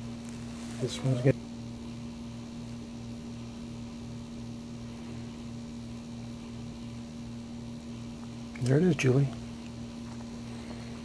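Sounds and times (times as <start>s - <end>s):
electrical hum with pulsing throb: 0.0s - 11.0s.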